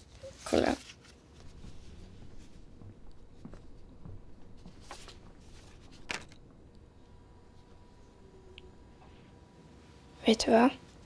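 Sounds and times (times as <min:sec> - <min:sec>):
soft rustles or clicks: 0:00.0 - 0:10.0.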